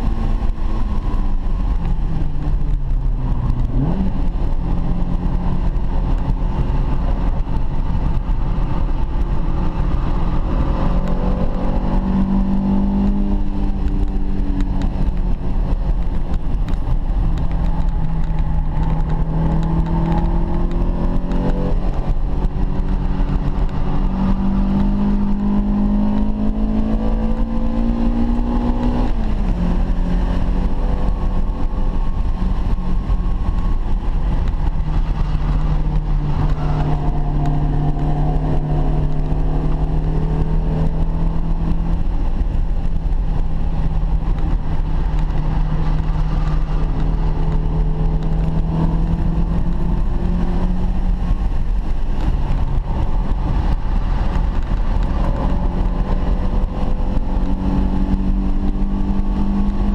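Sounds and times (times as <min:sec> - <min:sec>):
car engine accelerating through gears: 0:00.0 - 0:59.9
road and wind noise: 0:00.0 - 0:59.9.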